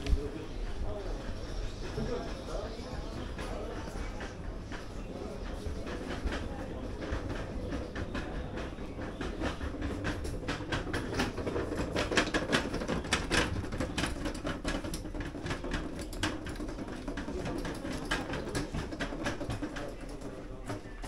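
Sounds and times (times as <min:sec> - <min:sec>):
trolley wheels rattling on stone tiles: 0:00.7 - 0:21.0.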